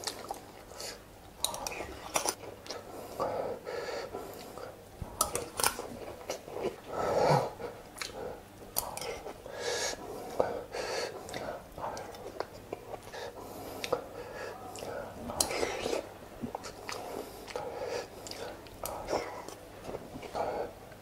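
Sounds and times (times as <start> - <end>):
chewing: 0.0 - 3.3, 4.2 - 10.5, 11.1 - 21.0.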